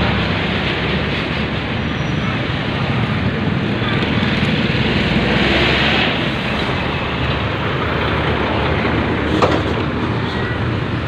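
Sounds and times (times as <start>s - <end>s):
road noise: 0.0s - 11.0s
truck diesel engine passing: 0.0s - 11.0s.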